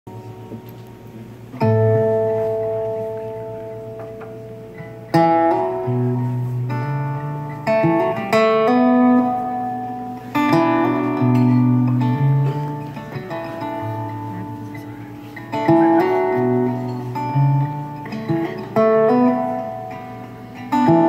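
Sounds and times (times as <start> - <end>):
acoustic guitar chords: 0.1 - 21.0.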